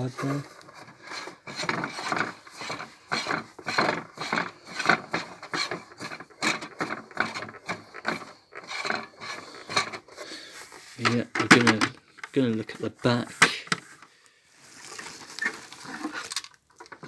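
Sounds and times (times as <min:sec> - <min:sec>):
plastic toy scraping: 0:00.0 - 0:17.0.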